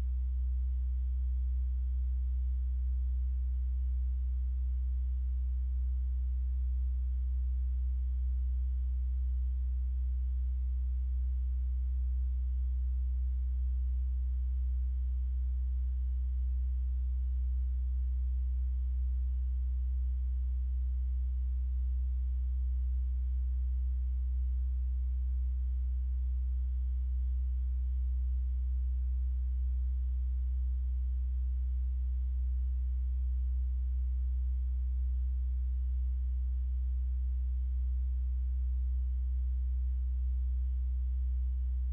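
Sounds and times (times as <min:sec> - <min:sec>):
steady low hum: 0:07.7 - 0:41.9.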